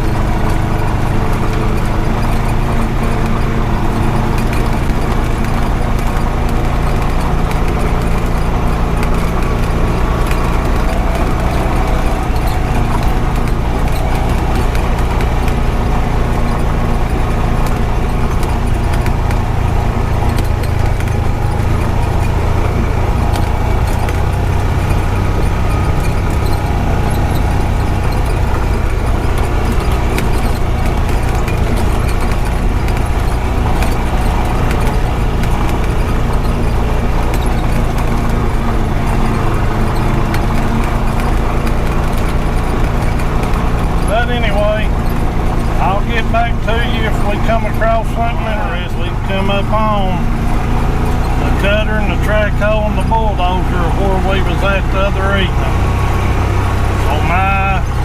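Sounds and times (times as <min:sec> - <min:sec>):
knocks and rattles on rough road: 0:00.0 - 0:58.0
utility vehicle engine running: 0:00.0 - 0:58.0.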